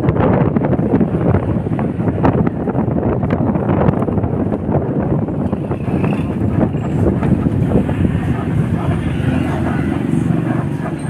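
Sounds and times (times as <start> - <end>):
street traffic rumble: 0.0 - 11.0
wind buffeting microphone: 0.0 - 11.0.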